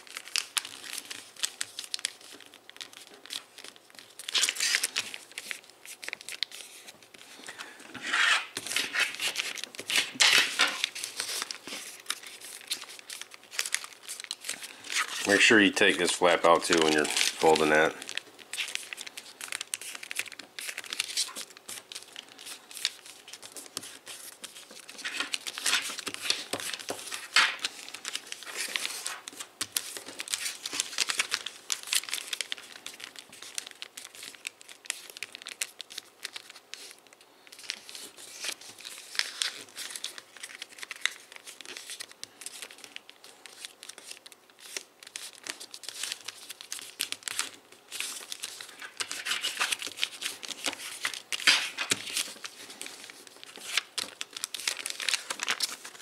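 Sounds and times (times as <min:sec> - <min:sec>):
foil paper crinkling: 0:00.0 - 0:56.0.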